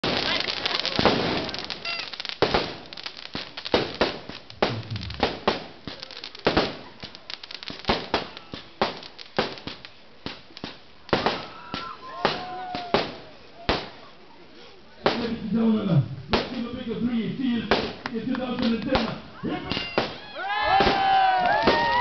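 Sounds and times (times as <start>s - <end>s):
fireworks bursting with bangs: 0.0s - 14.2s, 15.0s - 22.0s
fireworks crackling: 0.0s - 22.0s.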